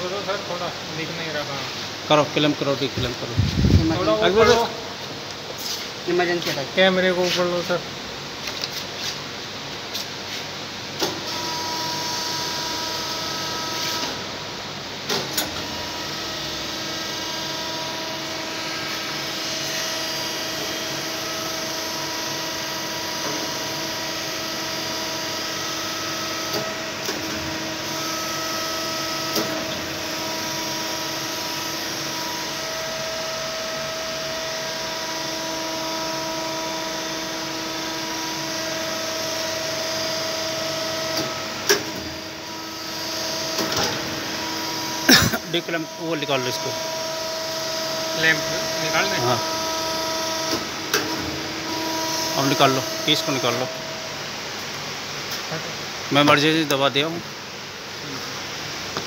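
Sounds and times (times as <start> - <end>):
machining centre whine: 0.0 - 59.0.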